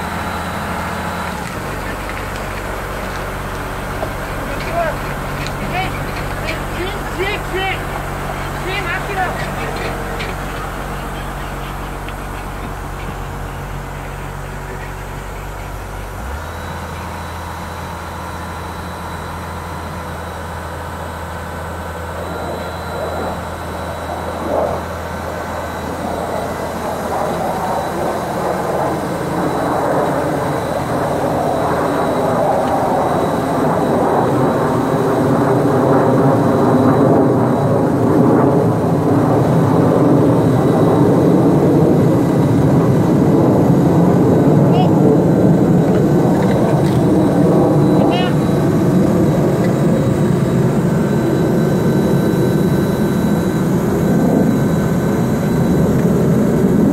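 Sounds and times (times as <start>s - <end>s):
diesel drill rig engine running: 0.0s - 56.9s.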